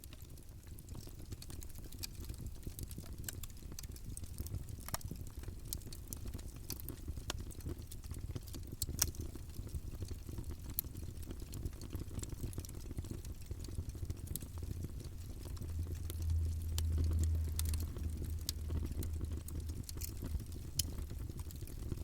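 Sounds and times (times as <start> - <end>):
campfire flame rumble: 0.0 - 22.0
wood crackling and popping: 0.0 - 22.0.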